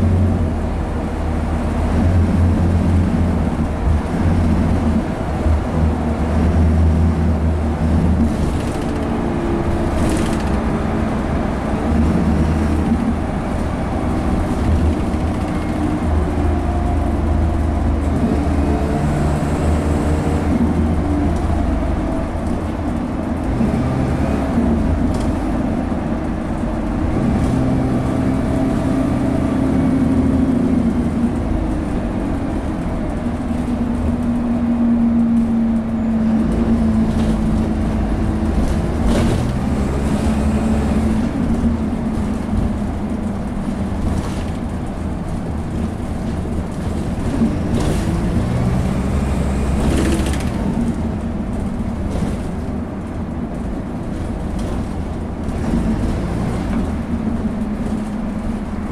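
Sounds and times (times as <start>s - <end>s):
bus diesel engine and gearbox: 0.0s - 58.9s.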